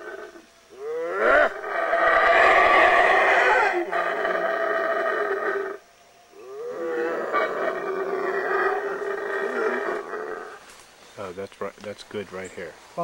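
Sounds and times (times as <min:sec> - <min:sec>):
howler monkeys howling: 0:00.0 - 0:10.8.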